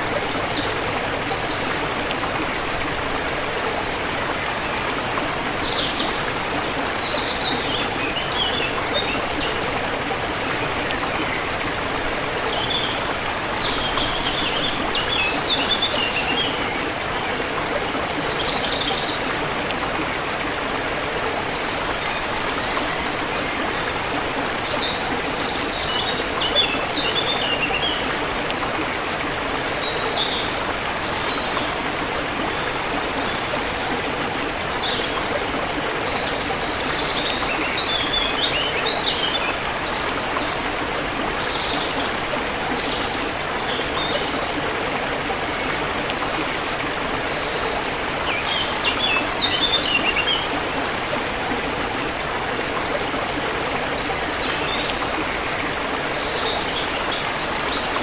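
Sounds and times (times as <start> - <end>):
stream flowing and splashing: 0.0 - 58.0.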